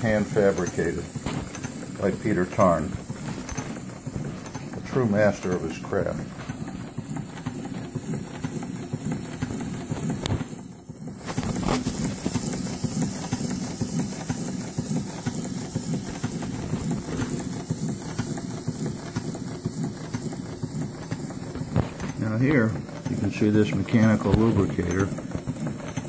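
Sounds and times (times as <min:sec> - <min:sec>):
model steam engine clattering: 0:00.0 - 0:26.0
steam exhaust hissing: 0:00.0 - 0:26.0.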